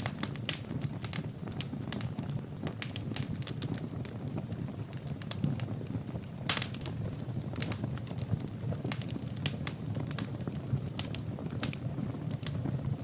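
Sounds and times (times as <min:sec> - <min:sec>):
low rumble of flame: 0:00.0 - 0:13.0
wood fire crackling: 0:00.0 - 0:13.0.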